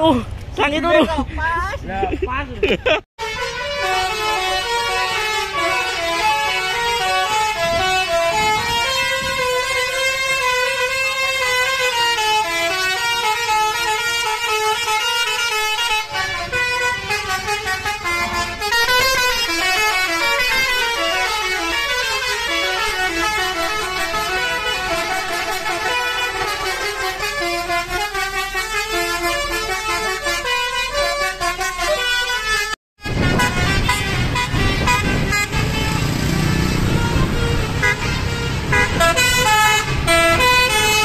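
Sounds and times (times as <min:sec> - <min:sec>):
musical air horn melody: 0:03.2 - 0:41.0.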